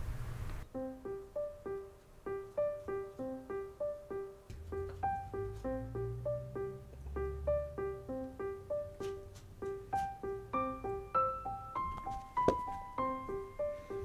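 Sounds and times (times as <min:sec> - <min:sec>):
light piano tune: 0:00.0 - 0:14.0.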